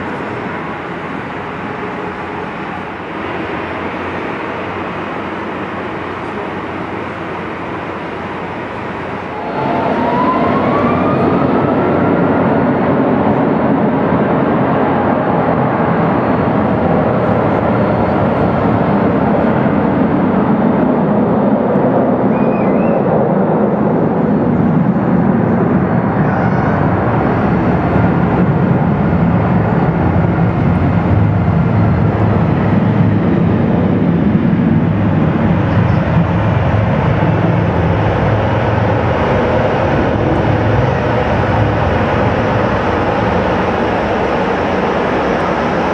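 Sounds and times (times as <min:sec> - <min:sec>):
jet engines roaring on takeoff: 0:00.0 - 0:45.9.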